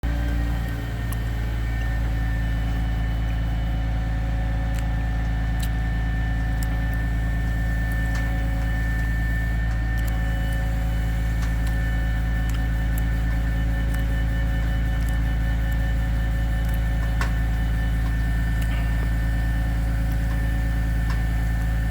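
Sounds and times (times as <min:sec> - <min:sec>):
truck engine running: 0:00.0 - 0:21.9.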